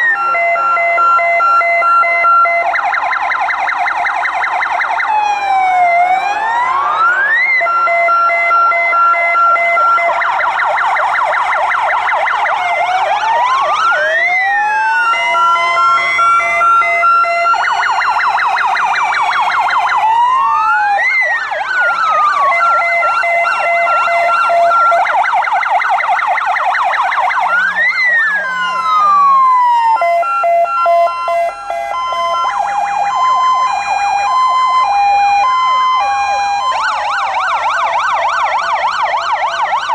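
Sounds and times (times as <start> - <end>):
fire engine sirens wailing: 0.0 - 39.9
siren yelps: 0.0 - 39.9
two-tone hi-lo siren: 0.0 - 39.9.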